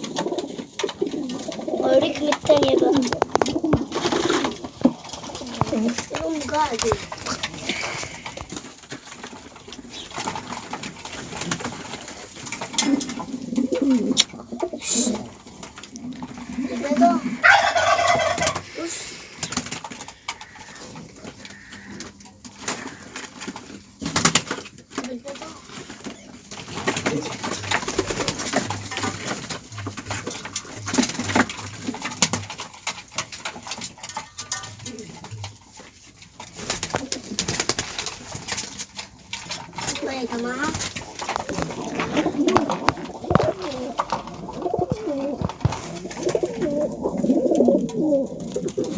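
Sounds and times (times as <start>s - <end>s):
pigeons cooing: 0.0s - 24.5s, 25.3s - 33.0s, 34.5s - 48.9s
birds scratching and rustling: 0.0s - 48.9s.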